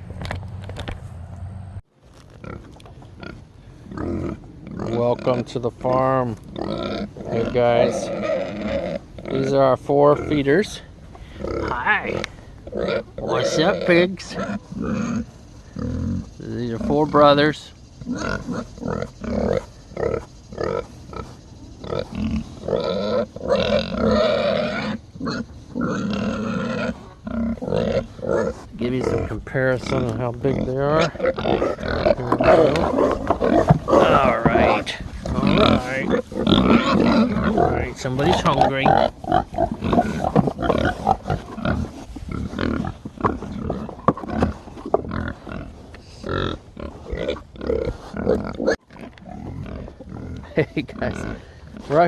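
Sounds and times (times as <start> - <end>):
pigs grunting: 2.4 - 52.0.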